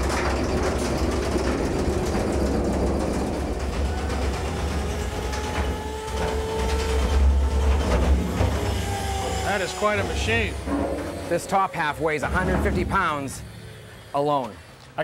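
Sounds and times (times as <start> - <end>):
nibbler cutting steel: 0.8 - 14.6.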